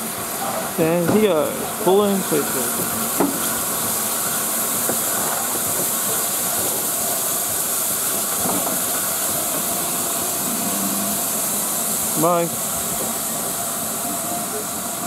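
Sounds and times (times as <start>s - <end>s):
steam hissing from locomotive: 0.0s - 15.0s.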